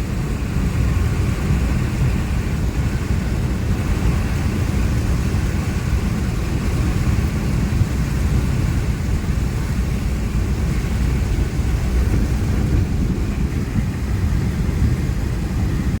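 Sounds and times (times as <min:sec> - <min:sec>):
vehicle rumbling along road: 0:00.0 - 0:16.0.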